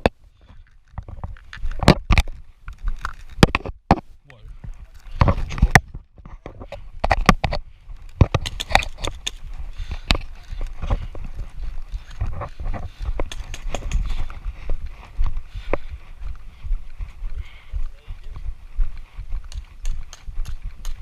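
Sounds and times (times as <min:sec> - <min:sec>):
footsteps on rough ground: 0:00.0 - 0:21.0.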